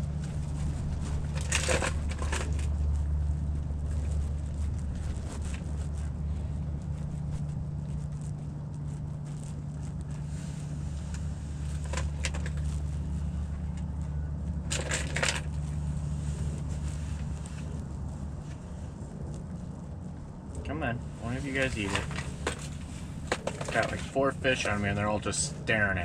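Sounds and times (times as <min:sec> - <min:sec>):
crackling bursts: 0:00.0 - 0:26.0.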